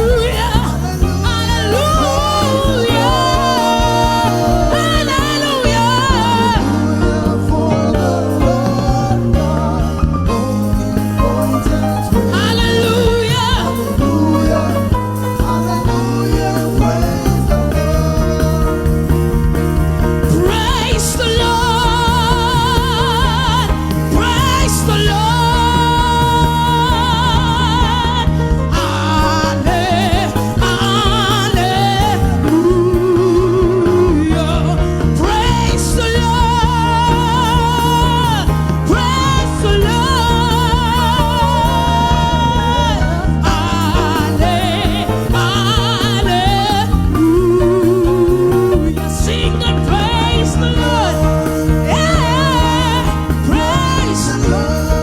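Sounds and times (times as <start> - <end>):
band accompaniment: 0.0 - 55.0.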